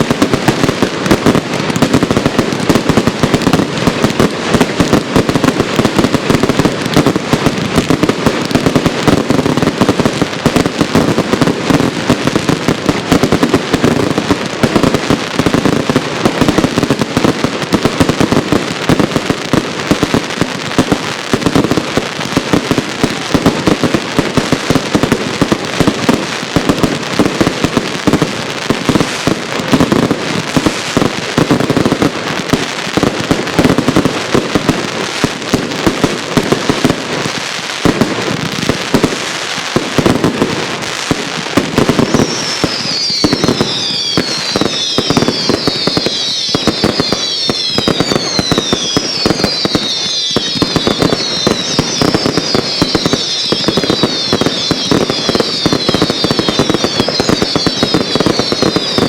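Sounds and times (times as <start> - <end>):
fireworks banging and crackling: 0.0 - 59.0.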